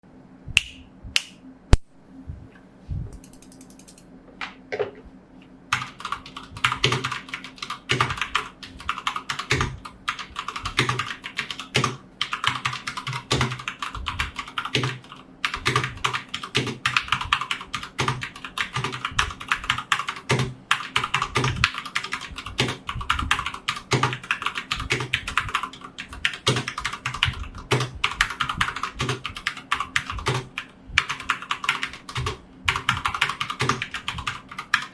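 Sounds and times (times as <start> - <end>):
typing on mechanical keyboard: 3.2 - 4.1, 5.7 - 34.9.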